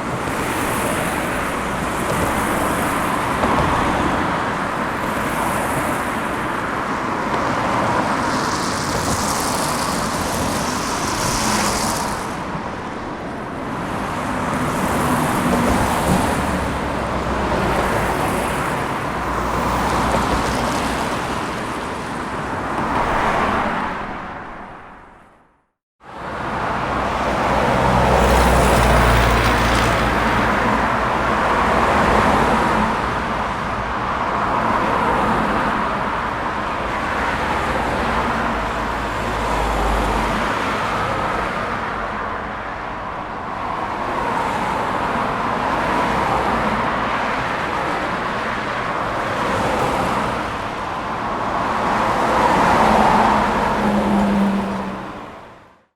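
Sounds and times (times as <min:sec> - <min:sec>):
highway traffic noise: 0:00.0 - 0:55.9.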